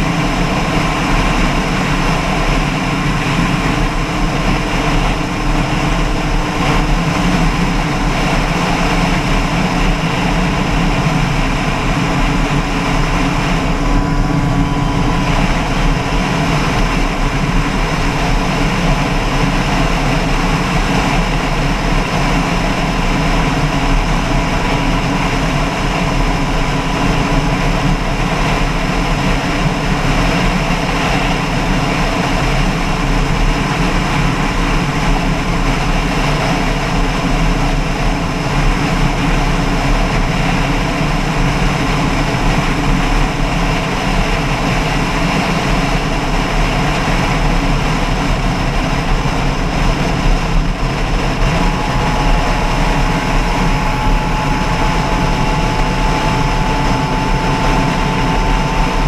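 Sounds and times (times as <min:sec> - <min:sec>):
loud steady engine noise: 0:00.0 - 0:59.0.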